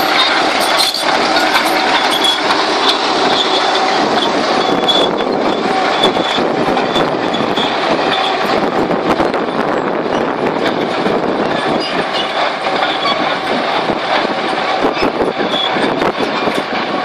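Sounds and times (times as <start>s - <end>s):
bulldozer diesel engine: 0.0s - 17.0s
steel tracks clattering: 0.0s - 17.0s
track gear squealing: 0.0s - 17.0s.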